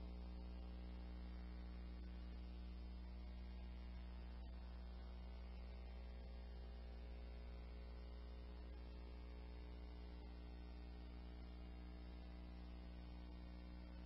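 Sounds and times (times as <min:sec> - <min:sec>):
low mains hum: 0:00.0 - 0:14.0.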